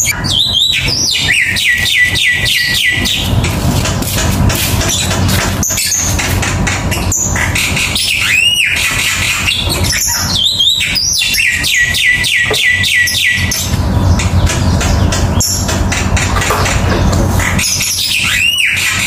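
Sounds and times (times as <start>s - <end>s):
songbird singing: 0.0s - 3.7s, 6.9s - 19.0s
steady low rumble: 0.0s - 18.1s.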